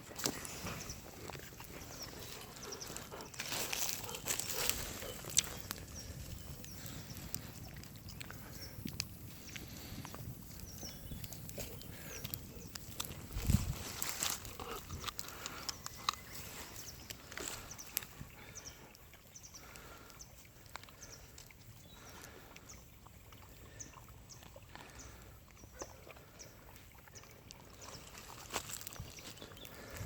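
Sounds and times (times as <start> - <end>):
campfire crackling: 0.0 - 22.6, 27.4 - 30.0.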